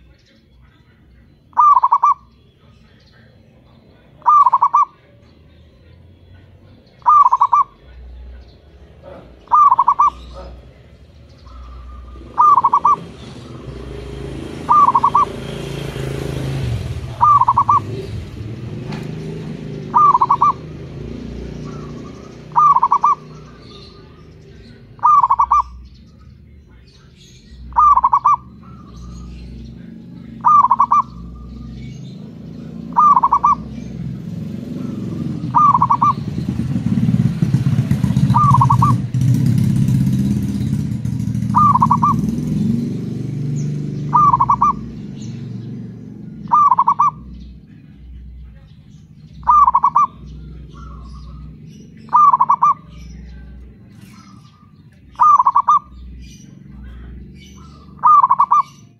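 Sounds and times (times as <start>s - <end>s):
low engine rumble: 0.0s - 58.9s
dove cooing: 1.0s - 2.4s, 3.9s - 7.9s, 8.5s - 26.4s, 27.5s - 48.0s, 49.3s - 58.9s.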